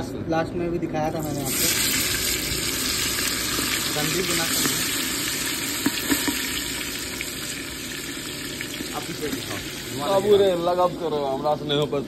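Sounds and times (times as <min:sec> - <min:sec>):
hot oil sizzling: 0:01.1 - 0:12.0
oil crackling: 0:01.2 - 0:11.0.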